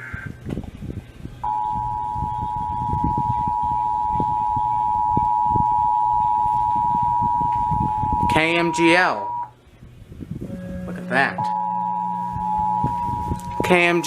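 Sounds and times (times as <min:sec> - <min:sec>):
two-tone alert signal: 0:01.4 - 0:09.5, 0:10.5 - 0:13.7.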